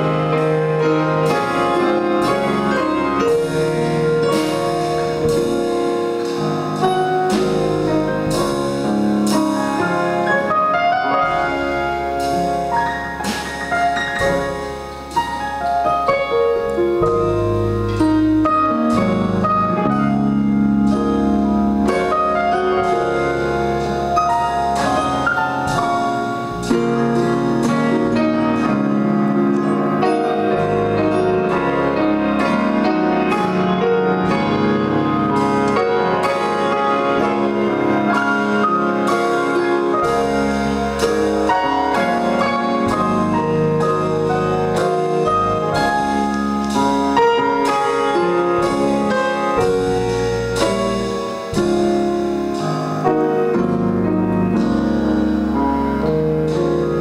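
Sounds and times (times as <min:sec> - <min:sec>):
instrumental piano music: 0:00.0 - 0:57.0.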